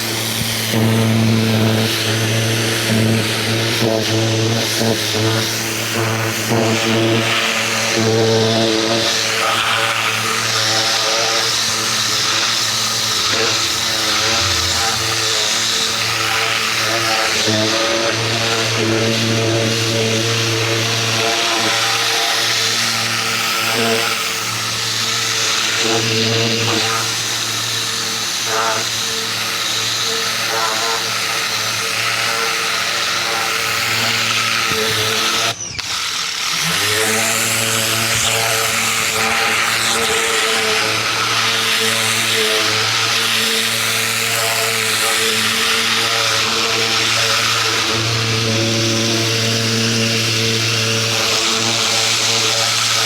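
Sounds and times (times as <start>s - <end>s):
pressure washer motor humming: 0.0s - 53.0s
water jet hissing: 0.0s - 53.0s.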